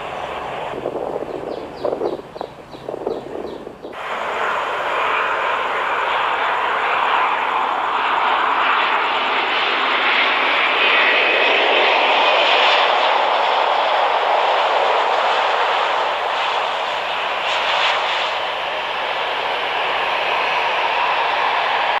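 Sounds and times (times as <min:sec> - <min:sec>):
airliner engines rushing: 0:00.0 - 0:22.0.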